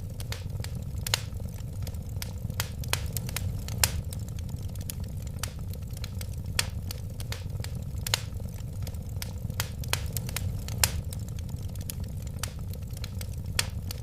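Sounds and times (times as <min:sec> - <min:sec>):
loud pops of fire: 0:00.0 - 0:14.0
wood fire crackling: 0:00.0 - 0:14.0.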